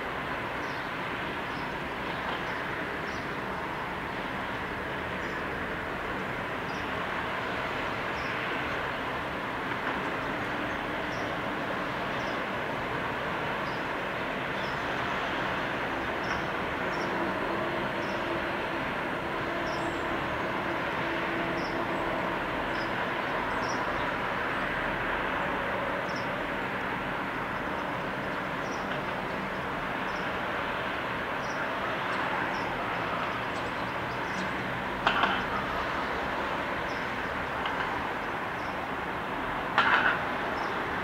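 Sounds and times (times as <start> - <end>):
distant vehicle noise: 0.0 - 41.0.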